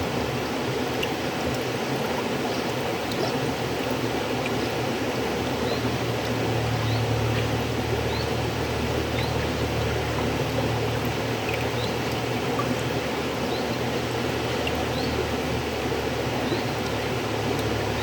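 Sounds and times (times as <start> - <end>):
faint water splashes: 0.0 - 18.0
river water rushing: 0.0 - 18.0.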